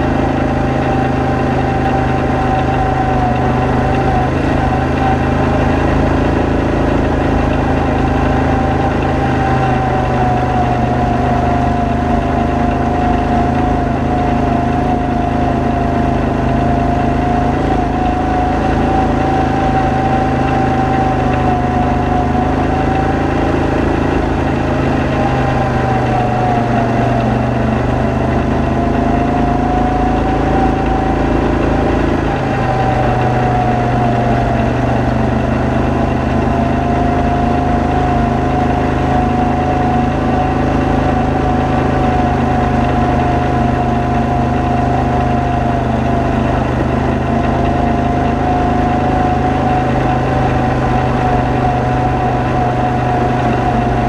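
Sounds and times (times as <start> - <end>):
atv engine running: 0.0 - 54.0
high engine whine: 0.0 - 54.0.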